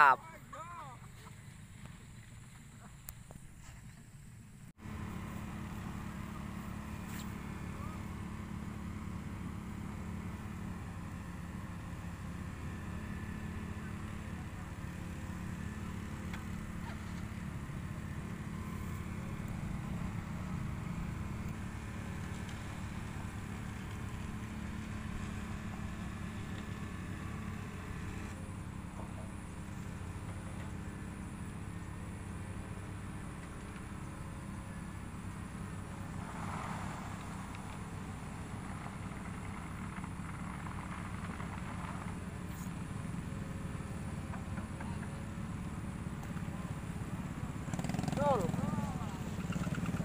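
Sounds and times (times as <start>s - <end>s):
heavy machinery engines droning: 0.0s - 50.0s.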